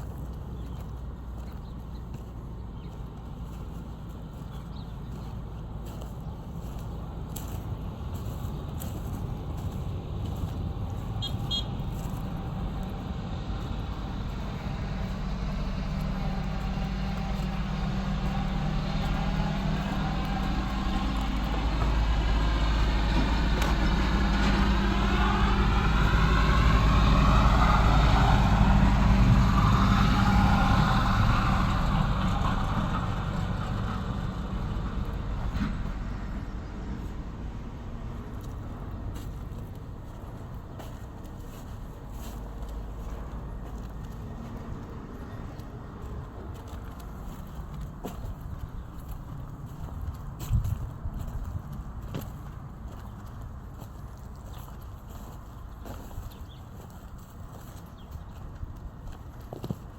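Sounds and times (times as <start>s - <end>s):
vehicle engine passing: 0.0s - 54.4s.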